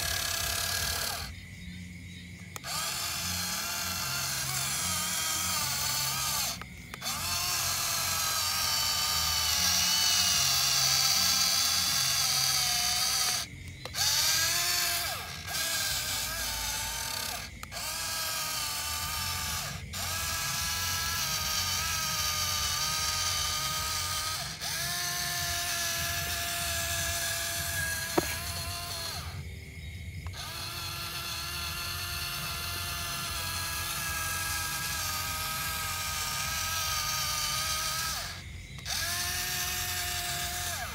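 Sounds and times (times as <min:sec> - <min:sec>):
toy electric motor whining: 0:00.0 - 0:40.9.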